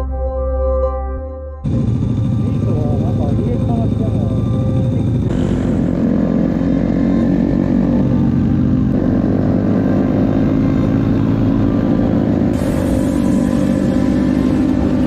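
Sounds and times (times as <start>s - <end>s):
motorcycle engine accelerating: 1.6s - 15.0s.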